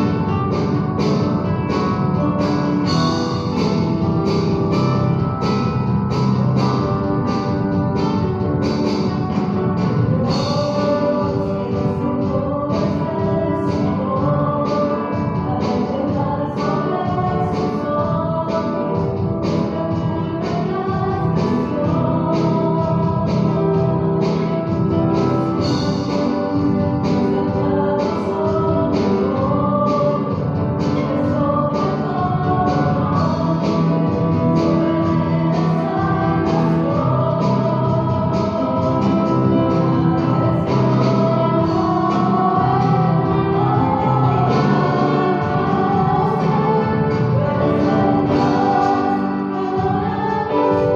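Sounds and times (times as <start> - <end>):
voices singing over a beat: 0.0 - 50.9.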